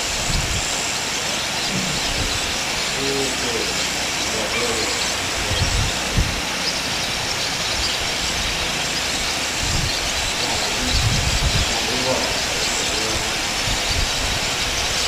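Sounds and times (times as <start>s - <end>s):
outdoor background hiss: 0.0s - 15.0s
low rumbling bumps: 1.4s - 15.0s.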